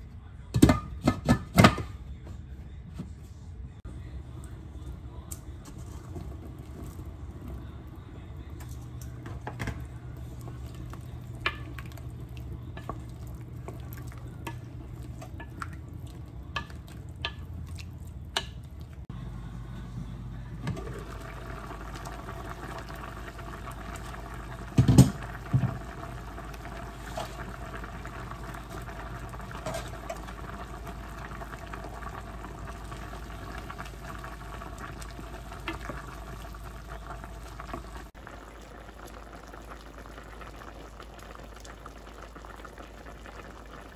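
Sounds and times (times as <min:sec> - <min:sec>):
curry bubbling in a pot: 0:05.7 - 0:19.1, 0:20.8 - 0:43.9.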